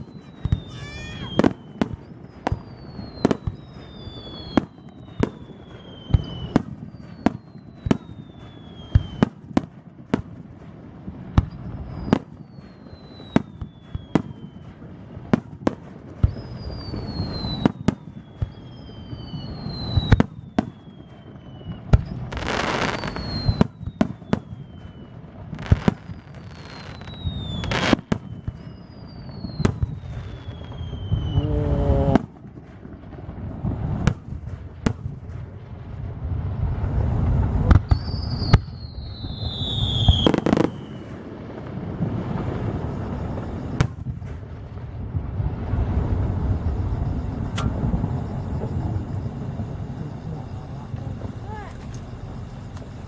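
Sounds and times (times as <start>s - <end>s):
crackling firework bursts: 0.0s - 53.0s
falling firework whistles: 0.0s - 53.0s.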